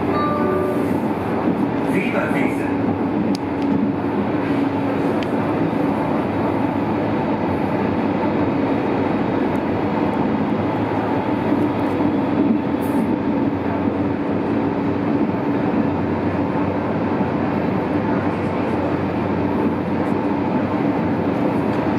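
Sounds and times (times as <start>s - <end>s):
train wheels rumbling on rails: 0.0s - 21.9s.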